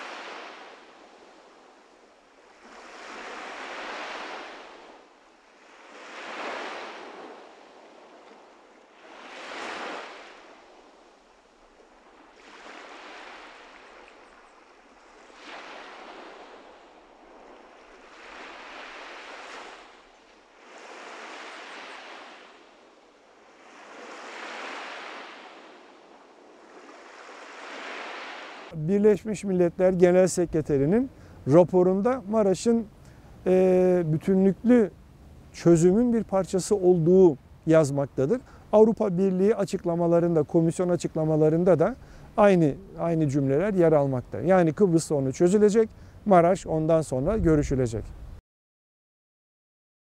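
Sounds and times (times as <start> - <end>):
sea waves washing in: 0.0 - 48.4.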